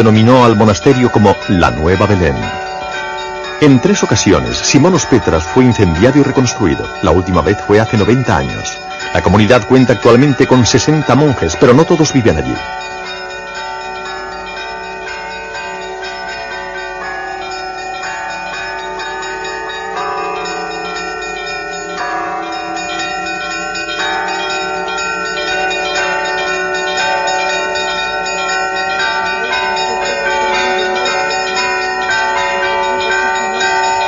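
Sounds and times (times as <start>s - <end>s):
church bells ringing: 0.0s - 34.0s.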